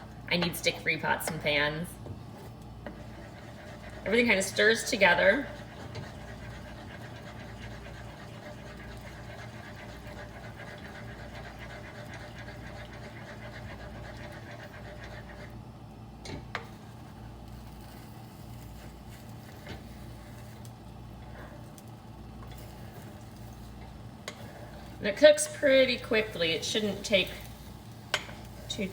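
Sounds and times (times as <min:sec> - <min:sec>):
low steady hum: 0:00.0 - 0:28.9
spoon scraping in a pan: 0:02.4 - 0:15.6, 0:16.3 - 0:28.9.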